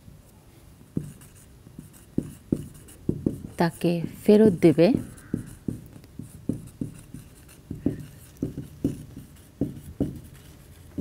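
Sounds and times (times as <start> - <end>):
marker writing on whiteboard: 0.8 - 11.0.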